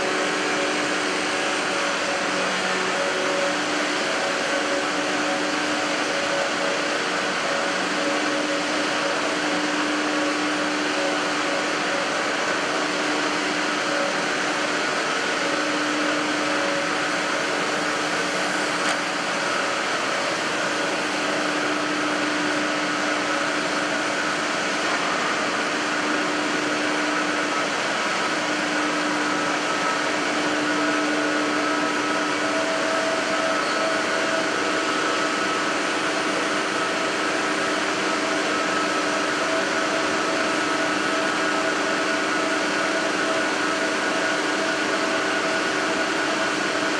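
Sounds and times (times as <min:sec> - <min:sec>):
extrusion machine hiss and hum: 0:00.0 - 0:46.9.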